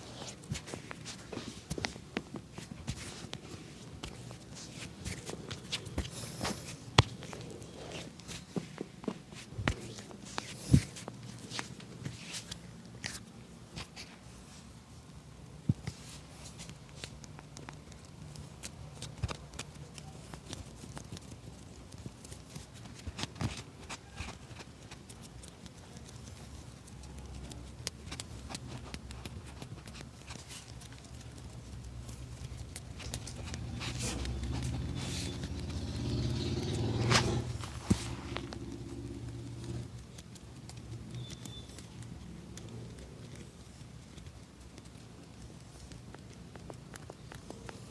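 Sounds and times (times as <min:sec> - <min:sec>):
faint low hum: 0:00.0 - 0:47.9.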